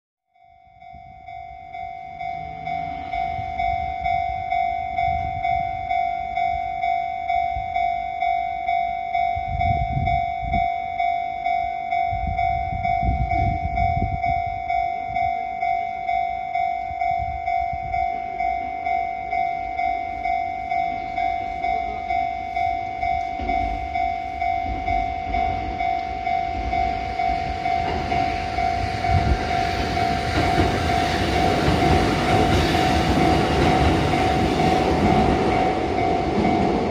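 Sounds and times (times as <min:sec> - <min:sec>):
crossing warning bell ringing: 0:00.3 - 0:36.9
electric train rumble: 0:00.5 - 0:36.9.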